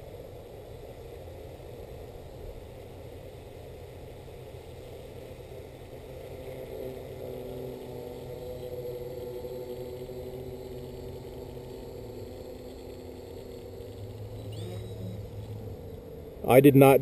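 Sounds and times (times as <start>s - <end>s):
quadcopter propellers humming: 1.4s - 17.0s.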